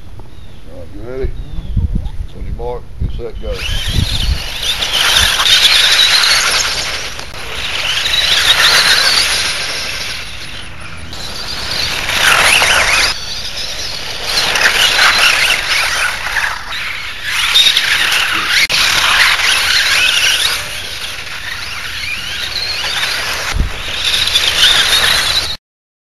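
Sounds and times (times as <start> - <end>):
toy car electric motor whine: 3.5 - 25.6.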